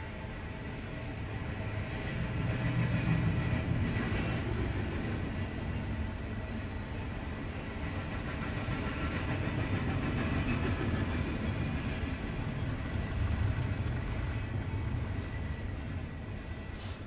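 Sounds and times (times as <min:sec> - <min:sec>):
steel wheels rumbling on rails: 0:00.0 - 0:17.0.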